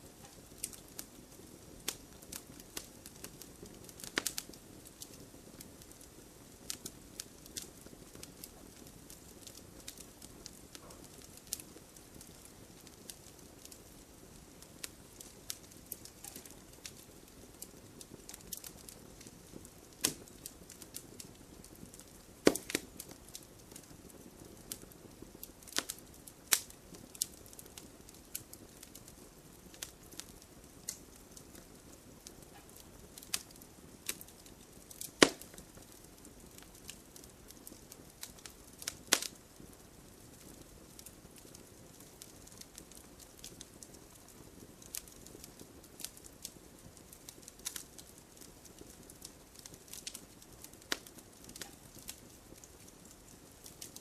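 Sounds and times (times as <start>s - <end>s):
fire hissing: 0.0s - 54.0s
logs crackling and popping: 0.0s - 54.0s.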